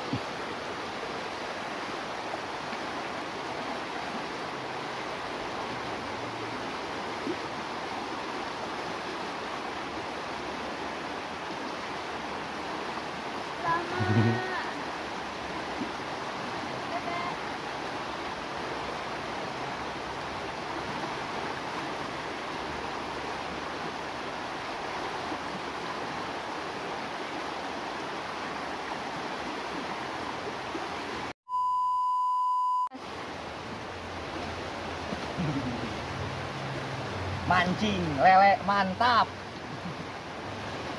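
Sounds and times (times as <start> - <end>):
river rushing over rocks: 0.0 - 31.3, 33.0 - 40.9.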